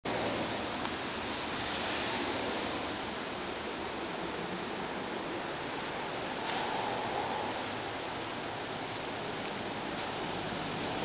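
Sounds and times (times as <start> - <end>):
steady outdoor hiss: 0.1 - 11.0.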